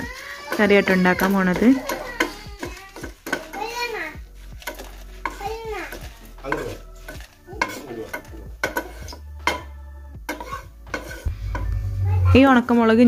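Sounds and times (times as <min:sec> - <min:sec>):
metal spatula scraping iron pan: 0:00.0 - 0:12.2.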